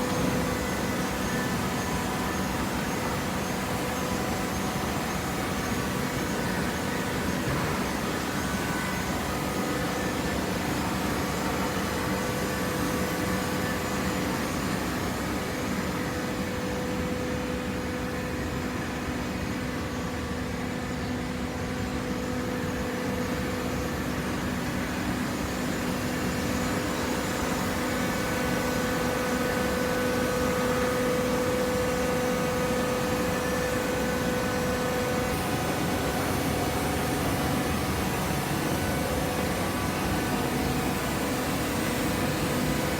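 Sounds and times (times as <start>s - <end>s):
held machine whine: 0.0s - 42.9s.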